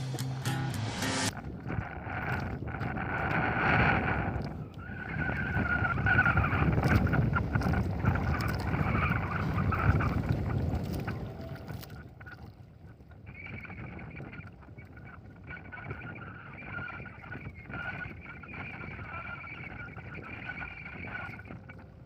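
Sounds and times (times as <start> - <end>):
wind buffeting microphone: 1.3 - 22.0
water washing against boat hull: 1.5 - 22.0.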